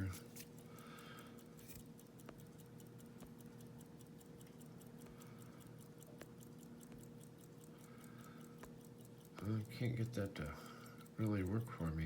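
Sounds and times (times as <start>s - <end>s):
faint even ticking: 0.0s - 12.0s.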